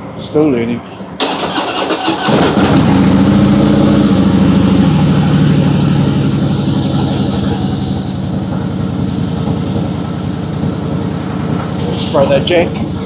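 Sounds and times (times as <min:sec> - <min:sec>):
motorcycle engine idling: 0:02.2 - 0:13.0.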